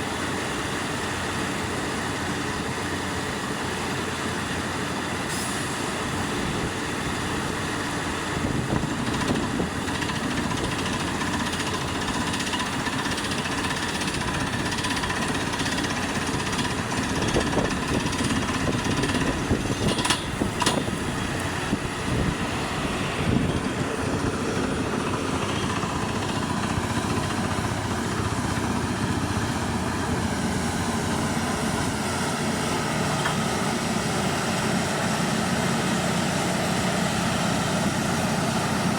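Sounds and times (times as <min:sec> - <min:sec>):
drilling rig running: 0:00.0 - 0:38.9
air compressor running: 0:06.4 - 0:38.9.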